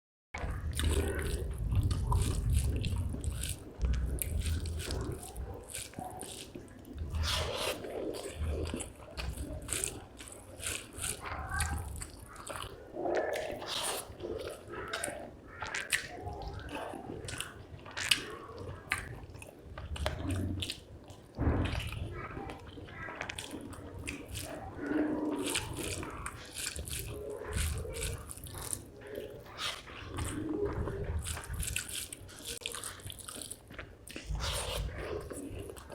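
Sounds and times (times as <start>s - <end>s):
wet chewing and lip-smacking: 0.4s - 35.9s.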